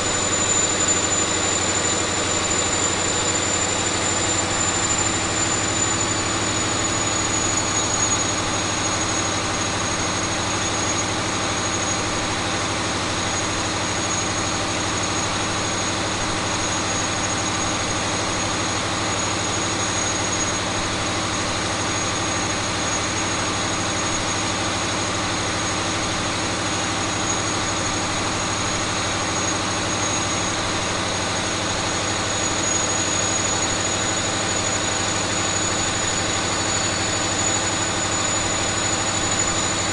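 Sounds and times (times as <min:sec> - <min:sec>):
diesel engine running: 0:00.0 - 0:39.9
high thin whine: 0:00.0 - 0:39.9.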